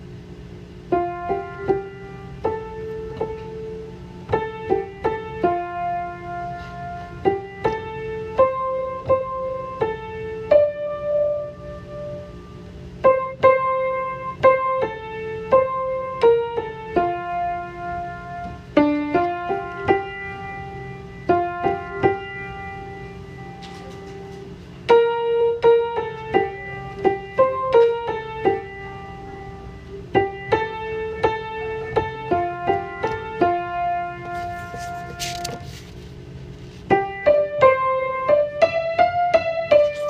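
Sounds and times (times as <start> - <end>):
slow piano melody: 0.0 - 40.0.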